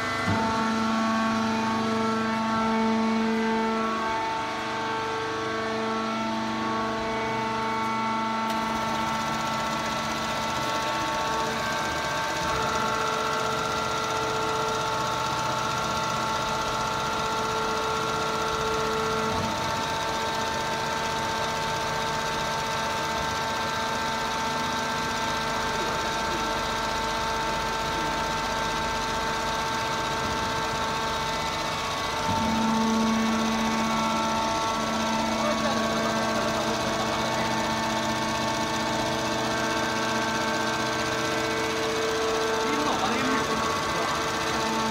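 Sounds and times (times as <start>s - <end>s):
machinery humming: 0.0s - 44.9s.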